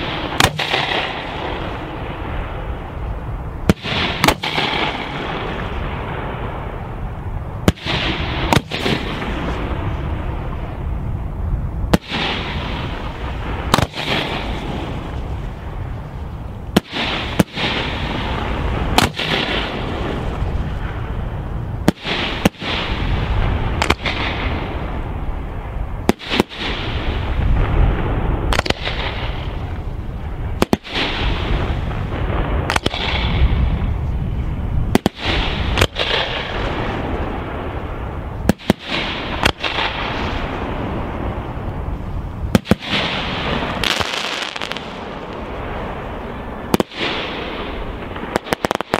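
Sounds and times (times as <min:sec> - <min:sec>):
fireworks bursting with bangs: 0:00.0 - 0:11.0, 0:11.6 - 0:48.9
rolling rumble and crackle: 0:00.0 - 0:48.9.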